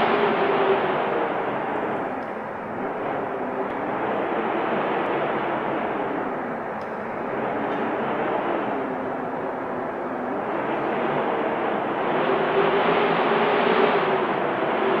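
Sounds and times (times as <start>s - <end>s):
strong wind gusting: 0.0s - 15.0s.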